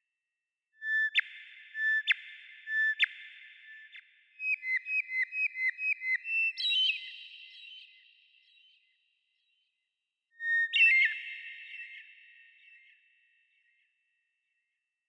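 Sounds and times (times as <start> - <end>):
songbird singing whistled notes: 0.8 - 9.6, 10.4 - 13.8.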